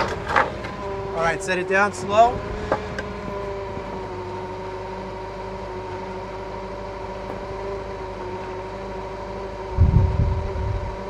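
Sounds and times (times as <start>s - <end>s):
forklift engine whining: 0.0s - 11.0s.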